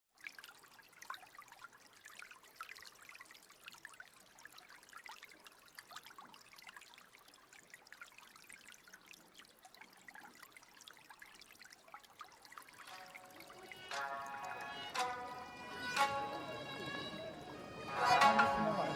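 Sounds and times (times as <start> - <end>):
water trickling: 0.1 - 18.9.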